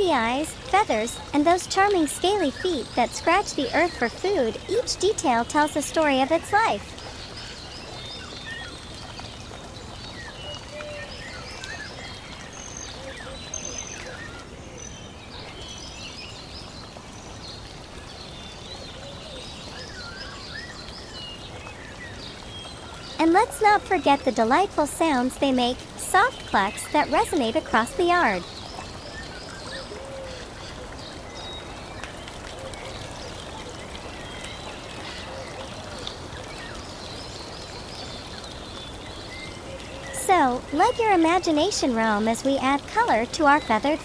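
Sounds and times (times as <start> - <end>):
running water: 0.0 - 44.0
small birds chirping: 0.0 - 44.0.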